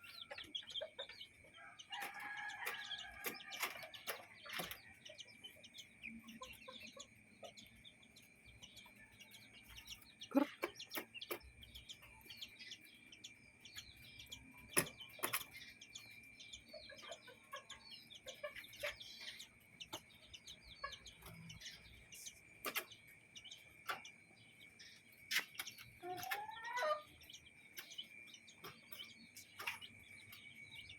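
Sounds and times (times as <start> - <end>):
chickens clucking: 0.0 - 30.9
chicks peeping: 0.0 - 30.9.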